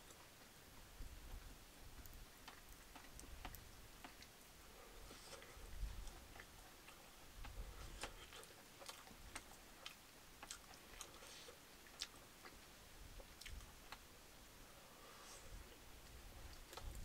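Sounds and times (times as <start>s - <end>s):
quiet chewing: 1.2s - 14.1s, 14.7s - 17.0s.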